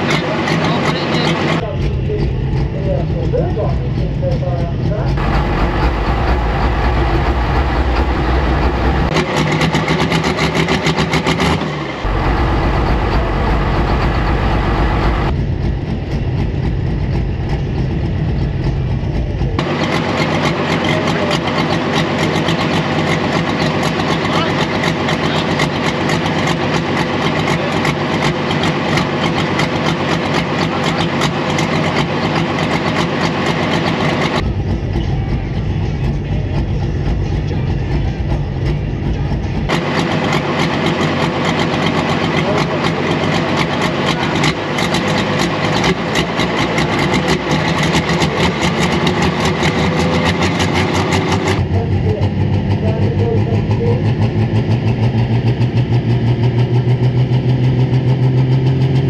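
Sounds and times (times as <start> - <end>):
deep pulsing: 0.0 - 59.0
diesel tractor engine running loud: 0.0 - 59.0.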